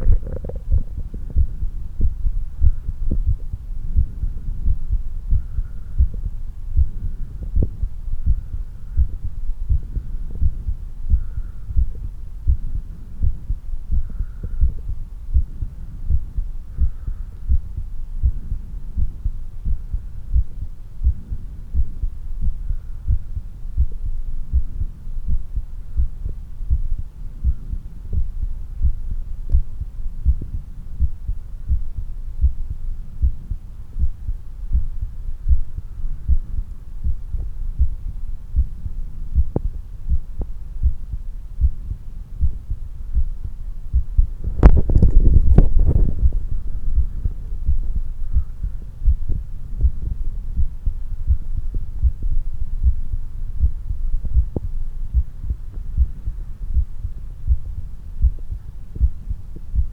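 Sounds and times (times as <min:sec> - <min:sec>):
heartbeat thumps: 0:00.0 - 0:59.9.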